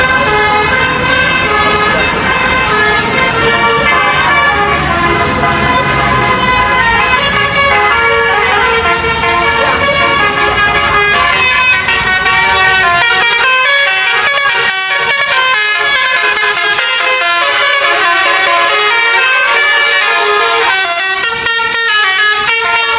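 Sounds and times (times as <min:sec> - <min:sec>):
multi-tone air horn melody: 0:00.0 - 0:22.9.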